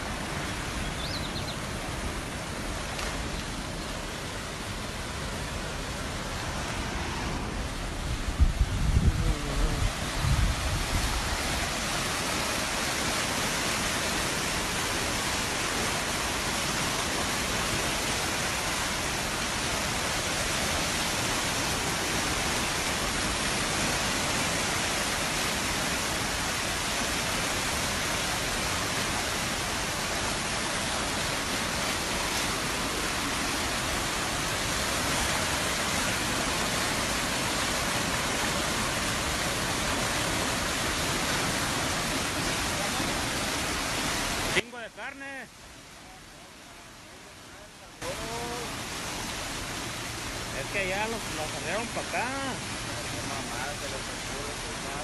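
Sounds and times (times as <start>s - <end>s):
floodwater rushing down river: 0.0s - 55.0s.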